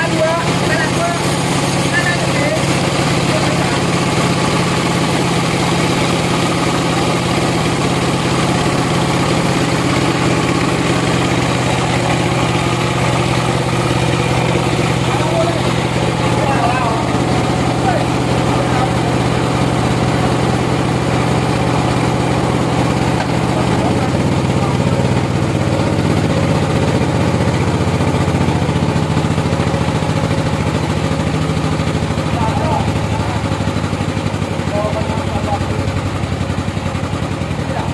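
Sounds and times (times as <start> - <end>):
engine idling: 0.0 - 37.9
sawmill machinery drone: 0.0 - 37.9.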